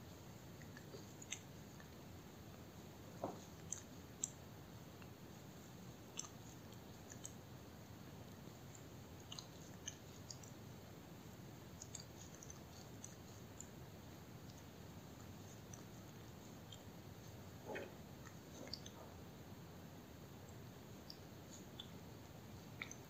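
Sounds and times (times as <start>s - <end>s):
low steady hiss: 0.0s - 23.0s
kitten licking paw: 0.1s - 23.0s.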